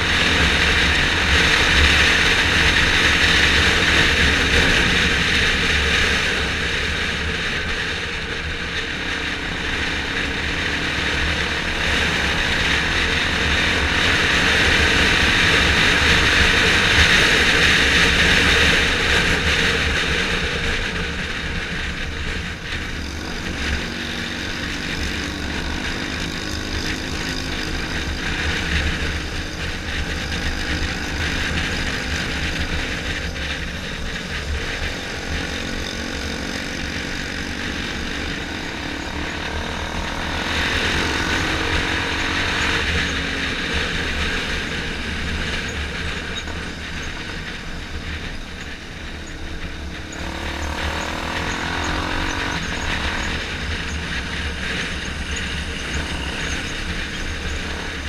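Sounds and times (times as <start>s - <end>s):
motorcycle engine: 0.0s - 58.0s
wind and road noise: 0.0s - 58.0s.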